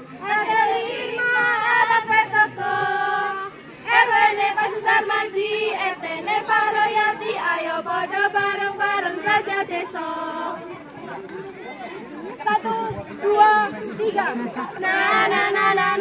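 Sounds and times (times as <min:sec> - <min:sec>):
young women singing a cheer: 0:00.0 - 0:10.7, 0:12.5 - 0:16.0.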